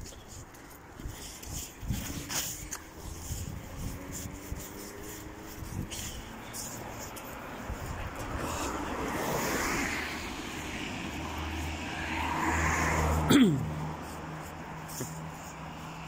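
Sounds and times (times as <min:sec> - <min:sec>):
cars passing: 0:00.0 - 0:16.0.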